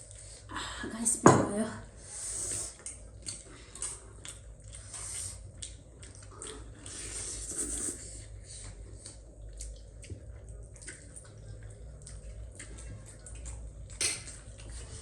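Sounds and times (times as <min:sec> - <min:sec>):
noodles being slurped and chewed: 0:02.2 - 0:15.0.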